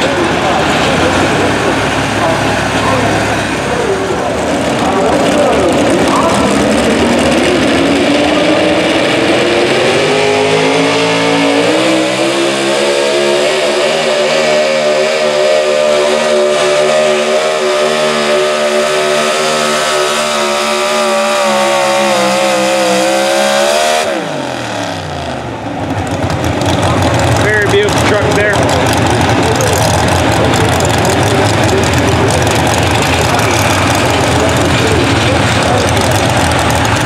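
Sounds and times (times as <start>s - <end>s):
race engine at full throttle: 0.0s - 37.0s.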